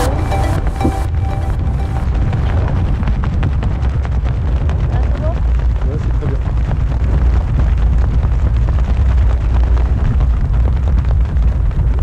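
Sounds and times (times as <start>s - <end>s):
wind buffeting microphone: 0.8s - 12.0s.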